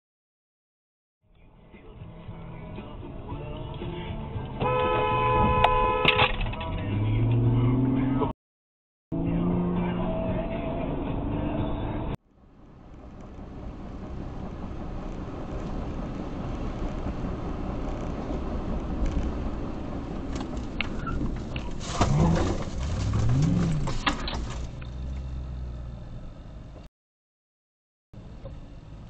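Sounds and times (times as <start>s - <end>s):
car engine and road noise: 1.3s - 8.4s, 9.1s - 26.9s, 28.2s - 29.0s.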